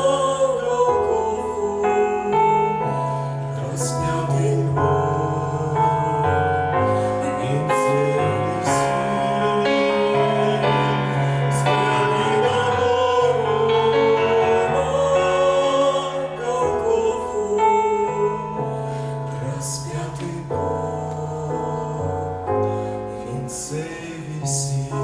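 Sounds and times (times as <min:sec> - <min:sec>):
sustained instrumental accompaniment: 0:00.0 - 0:24.0
man and woman singing sacred song: 0:00.0 - 0:25.0.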